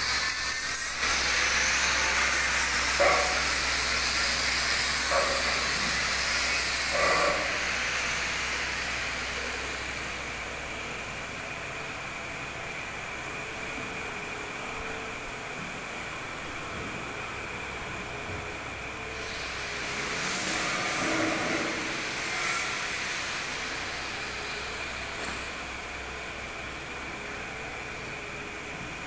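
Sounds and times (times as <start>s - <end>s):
workshop background hiss: 0.0s - 29.0s.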